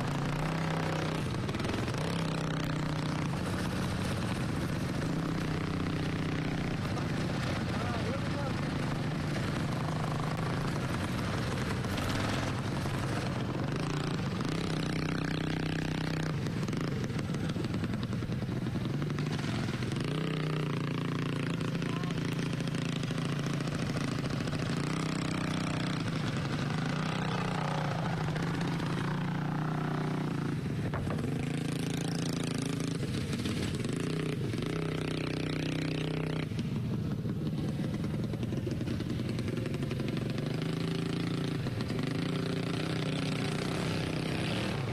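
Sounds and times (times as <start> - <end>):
racing lawnmower engines: 0.0 - 44.9.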